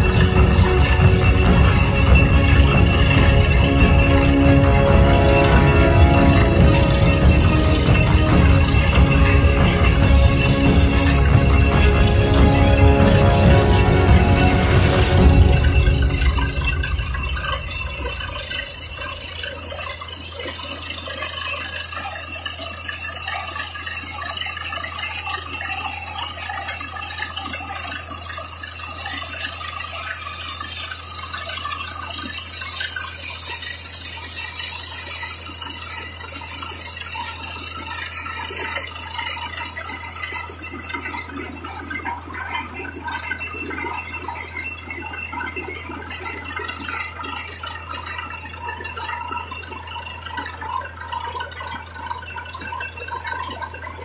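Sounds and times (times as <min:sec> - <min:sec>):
drilling rig engine drone: 0:00.0 - 0:54.0.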